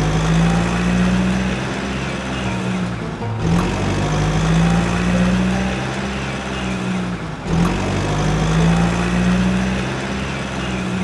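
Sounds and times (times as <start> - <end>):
truck engine hum: 0.0 - 11.0.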